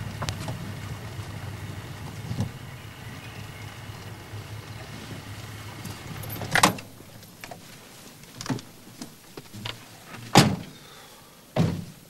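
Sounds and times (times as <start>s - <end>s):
car engine humming: 0.0s - 10.1s.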